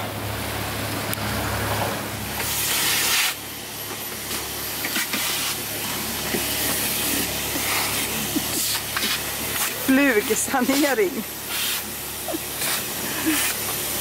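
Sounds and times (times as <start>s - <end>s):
vacuum cleaner hissing: 2.4s - 14.0s.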